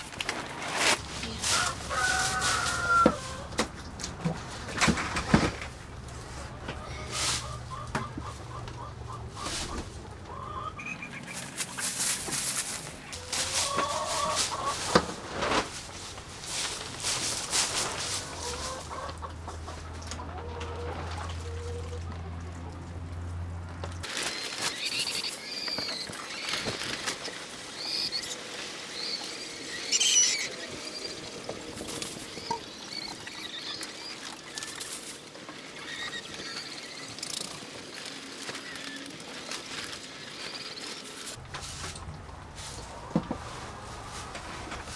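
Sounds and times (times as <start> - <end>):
hens clucking: 1.0 - 22.9, 24.6 - 44.9.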